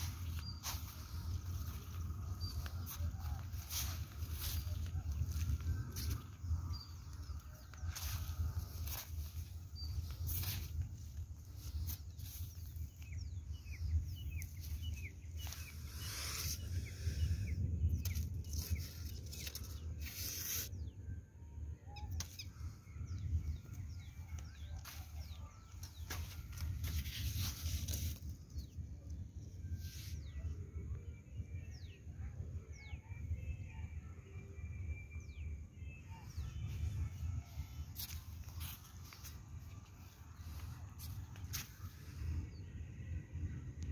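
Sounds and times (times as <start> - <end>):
steady low rumble: 0.0 - 20.1, 20.7 - 43.9.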